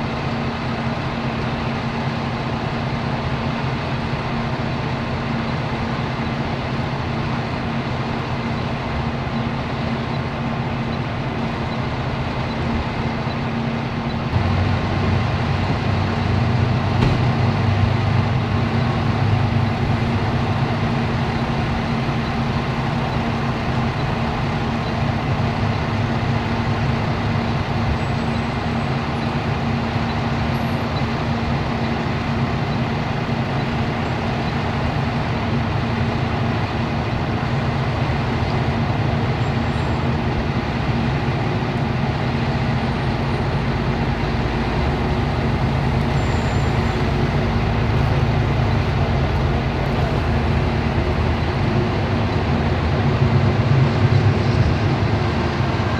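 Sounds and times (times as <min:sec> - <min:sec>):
heavy vehicle engine droning: 0:00.0 - 0:55.9.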